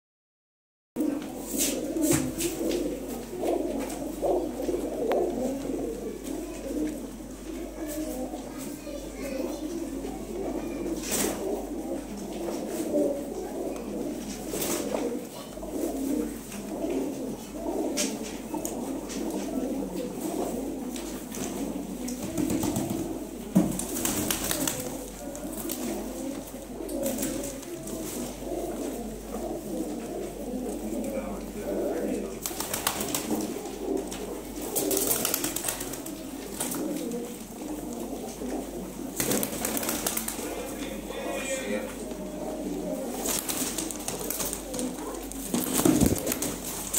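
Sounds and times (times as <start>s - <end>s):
pigeons cooing: 1.0s - 46.9s.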